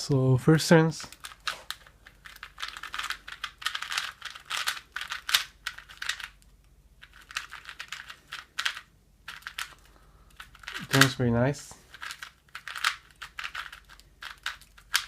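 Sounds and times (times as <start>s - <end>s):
puzzle cube plastic clicks: 1.0s - 11.2s, 11.9s - 15.0s.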